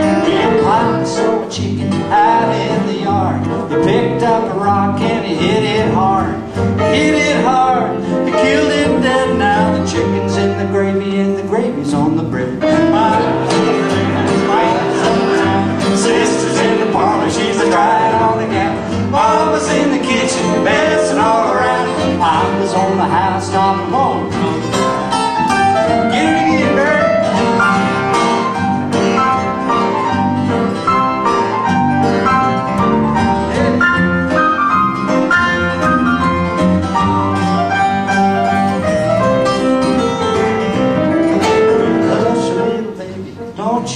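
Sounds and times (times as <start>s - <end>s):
acoustic guitars playing: 0.0s - 43.9s.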